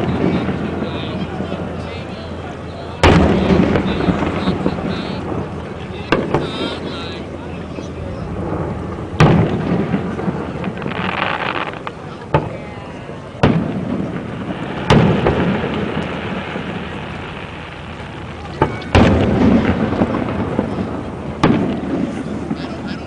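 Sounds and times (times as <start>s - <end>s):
firework crackling: 0.0s - 23.0s
firework shells booming: 0.0s - 23.0s.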